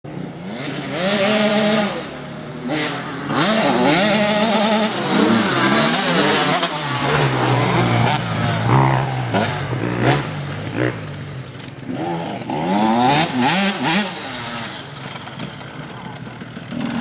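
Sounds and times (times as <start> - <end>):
motocross bike engine revving: 0.3 - 17.0.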